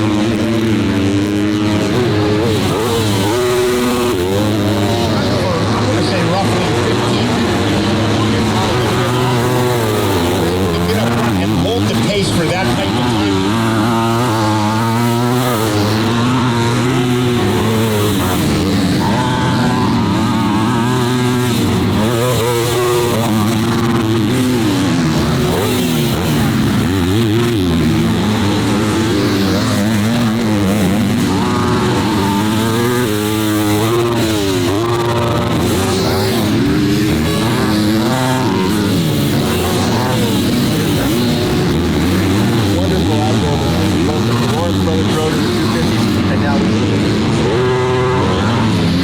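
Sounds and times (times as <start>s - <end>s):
motocross bike engines revving: 0.0s - 49.0s.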